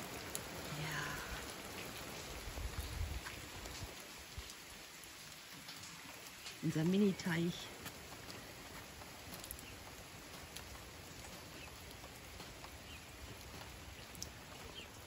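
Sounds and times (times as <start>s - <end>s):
light rain hissing: 0.0s - 15.0s
raindrops ticking: 0.0s - 15.0s.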